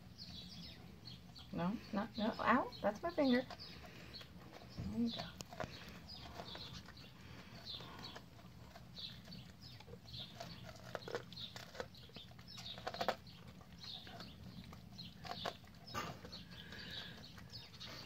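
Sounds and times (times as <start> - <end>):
dog chewing corn: 0.0 - 18.0.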